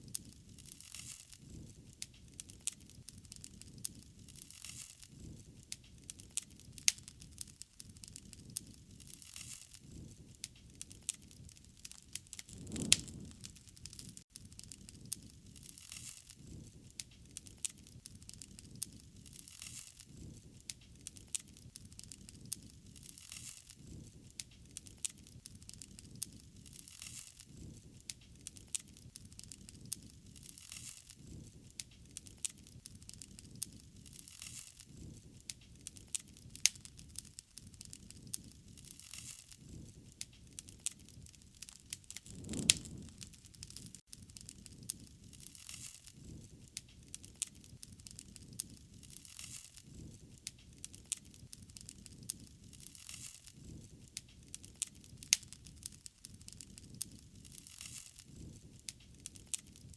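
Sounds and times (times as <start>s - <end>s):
low rumble and hiss of fire: 0.0s - 59.9s
wood fire crackling and popping: 0.0s - 59.9s.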